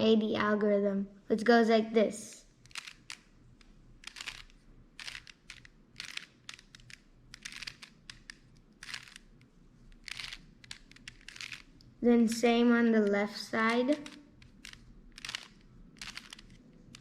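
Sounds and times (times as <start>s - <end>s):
puzzle cube plastic clicks: 2.6s - 12.4s, 13.0s - 17.0s.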